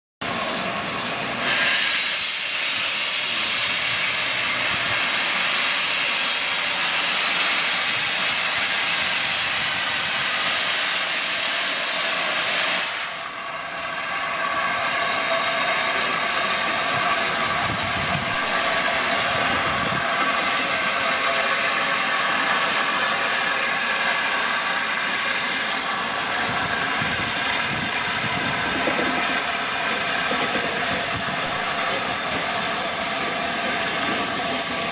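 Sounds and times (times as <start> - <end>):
steam train rushing: 0.2 - 34.9.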